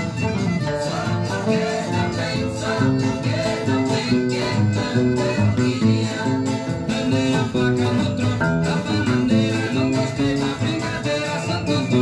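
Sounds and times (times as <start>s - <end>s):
fingerstyle classical guitar: 0.0s - 12.0s.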